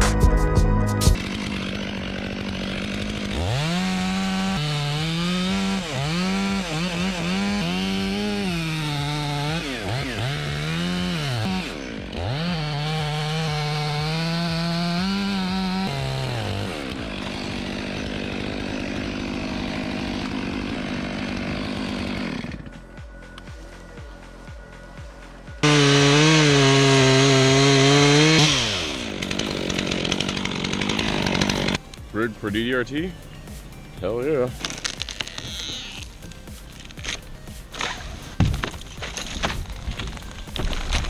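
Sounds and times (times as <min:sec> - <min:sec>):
chainsaw cutting wood: 0:01.1 - 0:23.5, 0:25.5 - 0:41.0.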